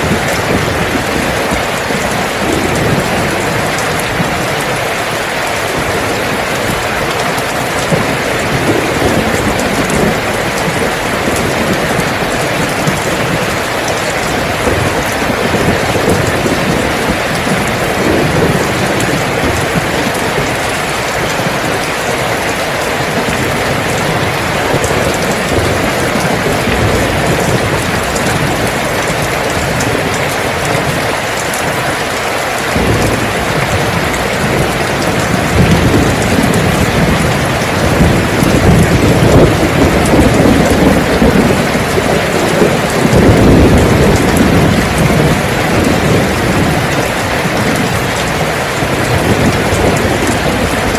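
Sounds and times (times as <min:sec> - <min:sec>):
deep thunder rumble: 0:00.0 - 0:50.9
heavy rain falling: 0:00.0 - 0:50.9.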